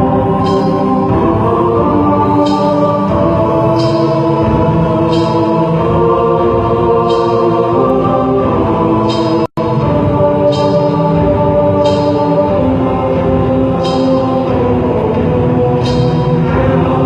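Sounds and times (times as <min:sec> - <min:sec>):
choral chanting with droning chords: 0:00.0 - 0:17.0.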